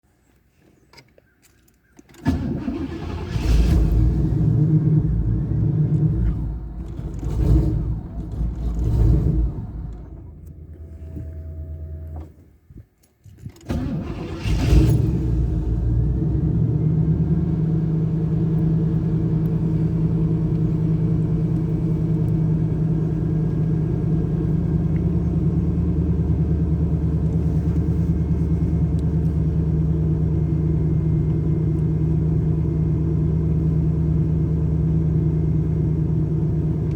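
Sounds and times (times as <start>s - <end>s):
car engine running unevenly: 4.0s - 12.3s, 15.3s - 36.9s.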